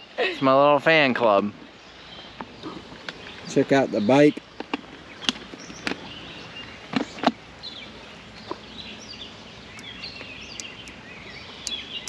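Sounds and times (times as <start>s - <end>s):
songbirds chirping: 0.0s - 12.0s
steady outdoor hiss: 0.0s - 12.0s.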